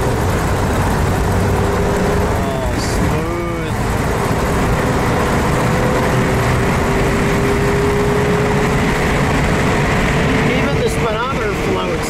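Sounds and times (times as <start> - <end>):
car engine cruising: 0.0 - 12.0.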